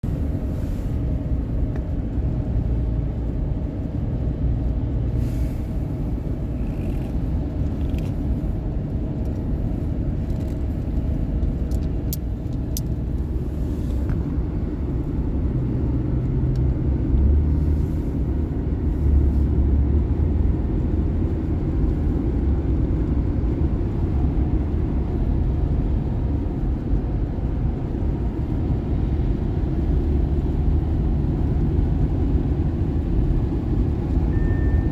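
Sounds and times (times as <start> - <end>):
car road and engine rumble: 0.0 - 34.9.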